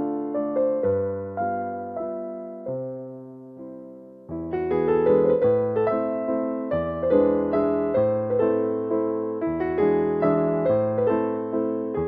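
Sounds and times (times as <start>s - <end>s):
calm piano music: 0.0s - 12.0s.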